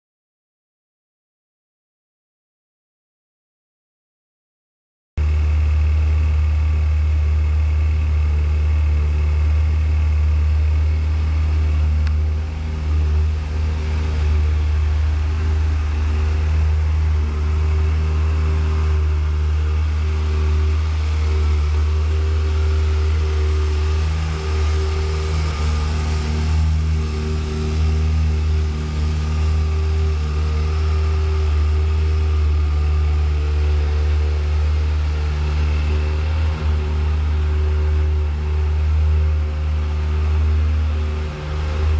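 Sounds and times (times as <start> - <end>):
car engine idling: 5.2 - 41.9.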